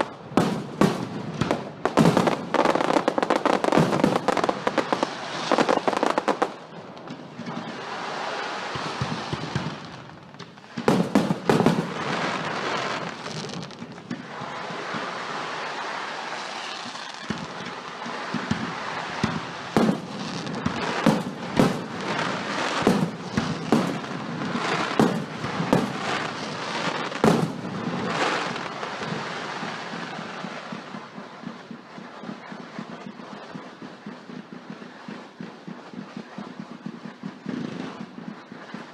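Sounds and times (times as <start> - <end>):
firework shells bursting bangs: 0.0 - 7.6, 10.4 - 14.3, 18.4 - 38.9
firework crackle: 0.0 - 38.9.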